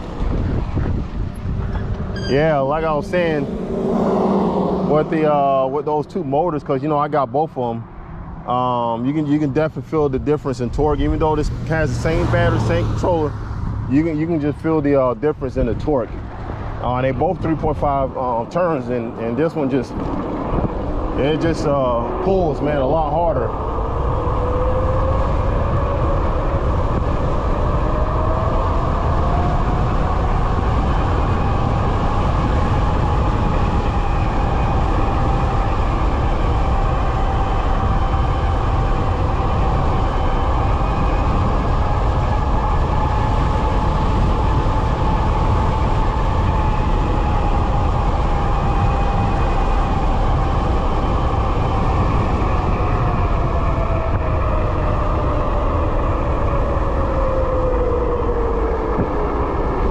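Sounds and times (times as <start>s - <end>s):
electric hub motor whining: 0.0s - 7.1s, 10.7s - 59.9s
wind rumble on microphone: 0.0s - 59.9s.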